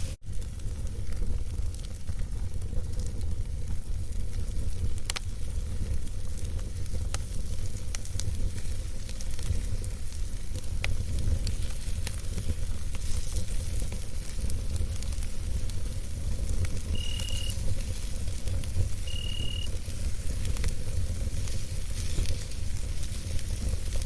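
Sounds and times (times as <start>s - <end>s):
campfire crackles and pops: 0.0s - 24.0s
fire hiss: 0.0s - 24.0s.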